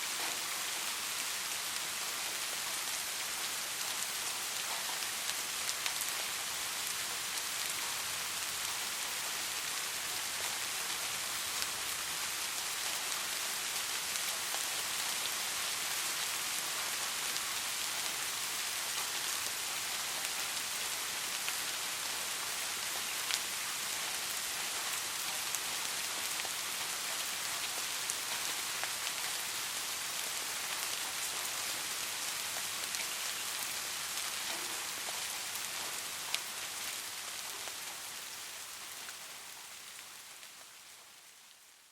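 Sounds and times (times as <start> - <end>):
soft rain falling: 0.0 - 41.9.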